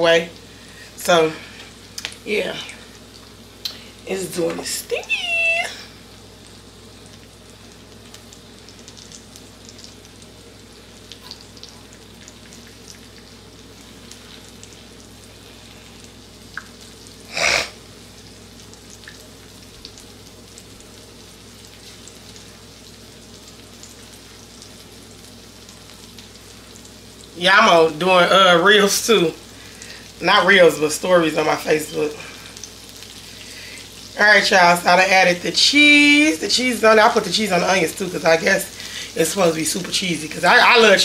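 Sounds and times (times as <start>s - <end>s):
food sizzling on a griddle: 0.0s - 41.0s.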